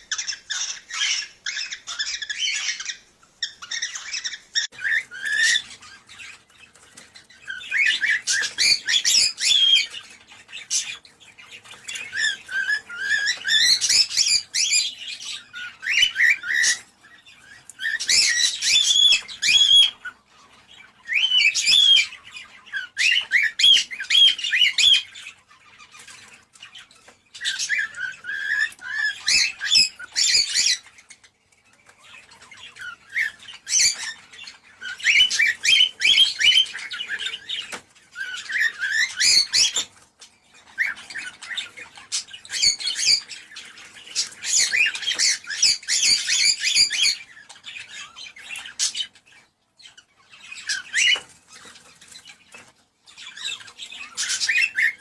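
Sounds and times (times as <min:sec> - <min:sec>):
cockatiels chattering and chirping: 0:00.0 - 0:55.0.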